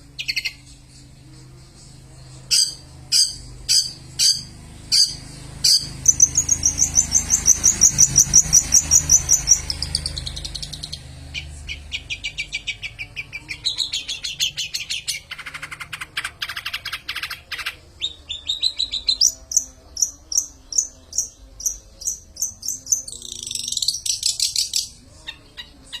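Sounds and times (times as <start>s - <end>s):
shrike singing varied song: 2.4s - 26.0s.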